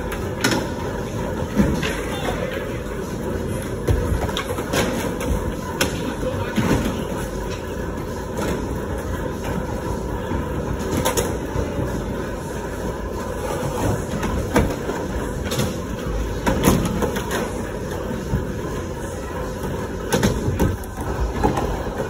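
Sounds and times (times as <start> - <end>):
skateboard wheels rolling: 0.0 - 22.0.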